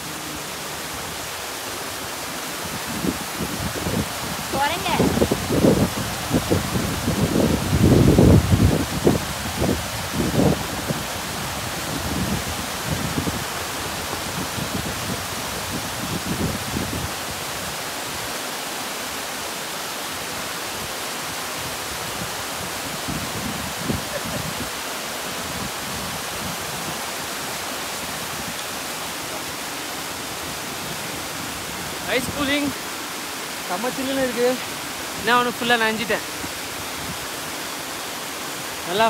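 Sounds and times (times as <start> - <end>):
waterfall rushing over rocks: 0.0 - 39.0.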